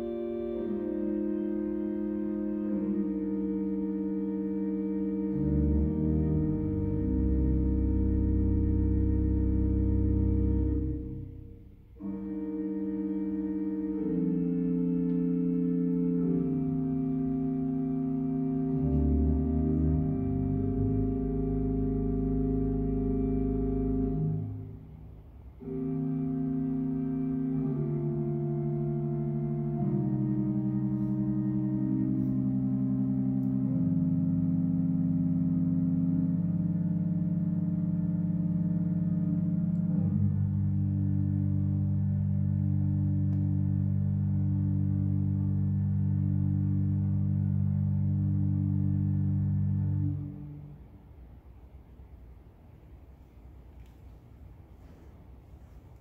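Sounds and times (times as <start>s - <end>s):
church organ playing chords: 0.0s - 50.9s.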